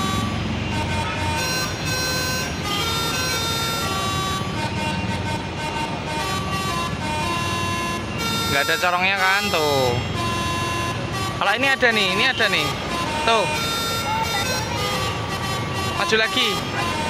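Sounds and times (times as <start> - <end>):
multi-tone bus horn tune: 0.0 - 17.0.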